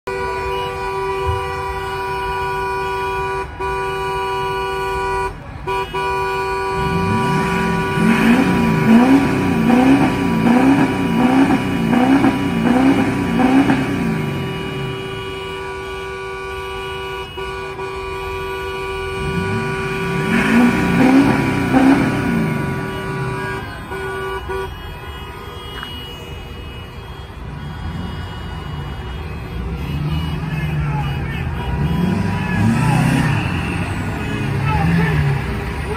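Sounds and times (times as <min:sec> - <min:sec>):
traffic rumble: 0:00.0 - 0:35.9
two-note vehicle horn blast: 0:00.1 - 0:34.5.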